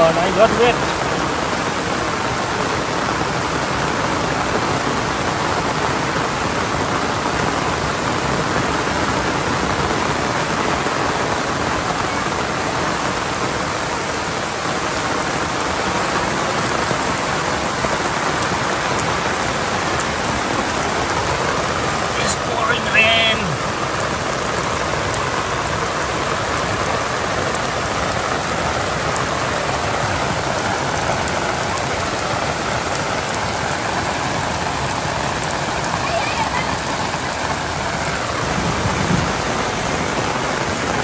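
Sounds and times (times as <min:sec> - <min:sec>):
heavy rain on leaves and road: 0:00.0 - 0:41.0.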